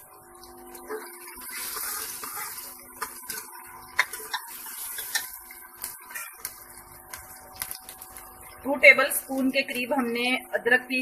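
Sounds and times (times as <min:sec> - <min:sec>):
onions sizzling in oil: 0:00.8 - 0:11.0.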